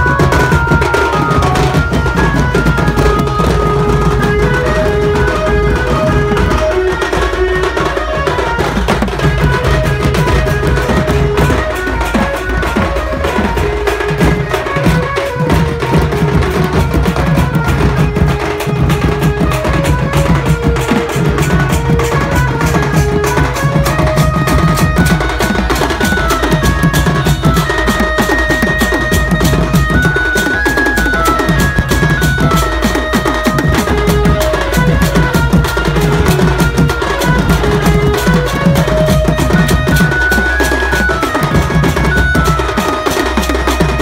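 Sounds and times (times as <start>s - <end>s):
hand drums: 0.0s - 44.0s.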